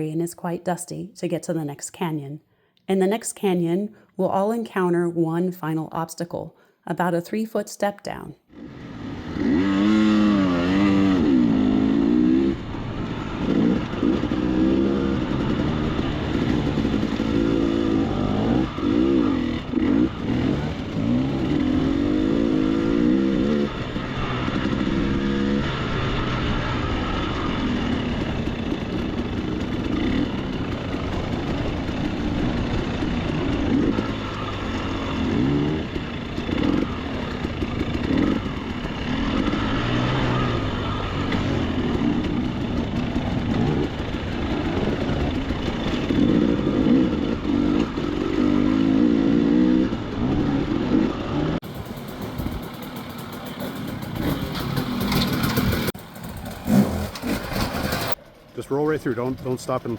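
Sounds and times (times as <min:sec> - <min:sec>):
dirt bike engine revving: 0:08.5 - 0:59.9.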